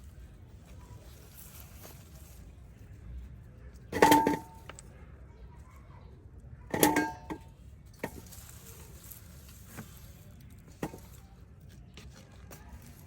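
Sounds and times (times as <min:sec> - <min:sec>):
digging potatoes: 0:00.0 - 0:04.9, 0:06.6 - 0:13.0.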